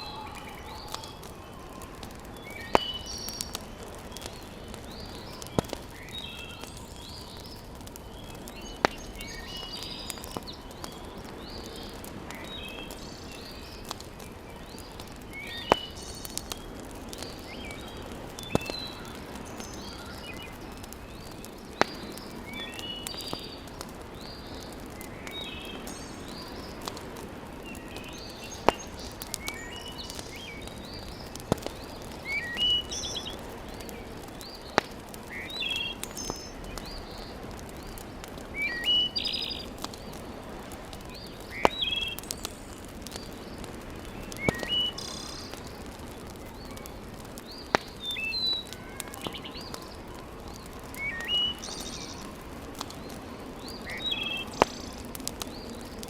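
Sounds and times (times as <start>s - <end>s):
birds chirping: 0.0s - 56.0s
wood fire crackling: 0.0s - 56.0s.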